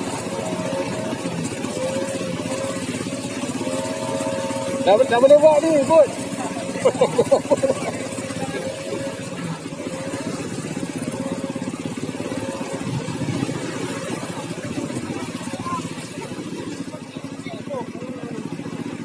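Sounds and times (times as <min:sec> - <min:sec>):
vehicle engine puttering: 0:00.0 - 0:19.0.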